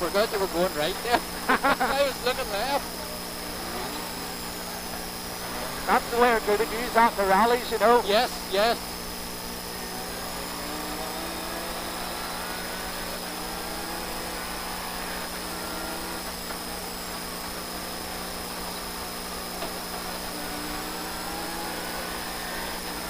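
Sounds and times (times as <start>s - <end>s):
car engine running: 0.0s - 23.0s
road noise: 0.0s - 23.0s.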